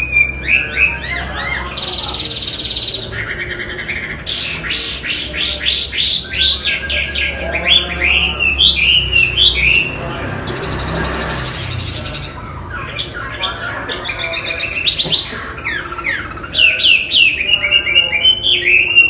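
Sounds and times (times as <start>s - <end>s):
bird singing whistles and trills: 0.0s - 10.0s, 10.6s - 19.0s.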